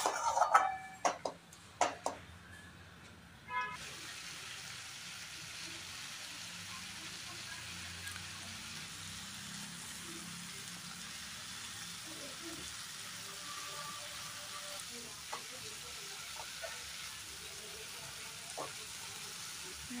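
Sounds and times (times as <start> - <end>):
vegetables sizzling in oil: 3.8 - 20.0.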